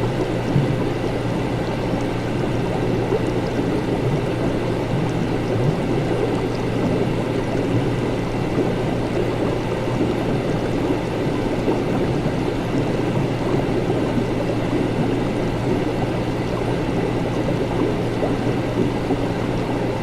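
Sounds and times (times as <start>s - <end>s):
liquid bubbling and gurgling: 0.0s - 20.0s
steady low hum: 0.0s - 20.0s.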